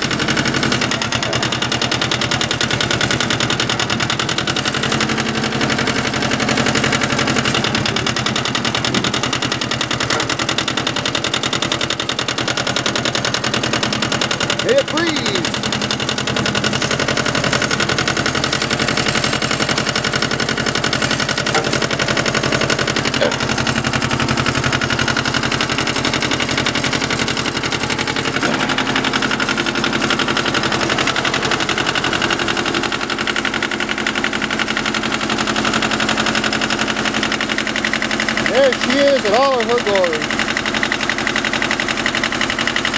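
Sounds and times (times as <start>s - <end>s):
diesel tractor engine chugging: 0.0s - 42.9s.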